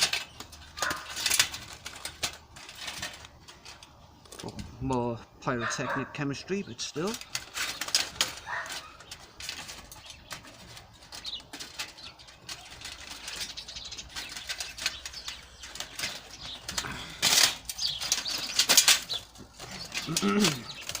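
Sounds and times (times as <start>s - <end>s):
sheet metal rustling and scraping: 0.0s - 21.0s.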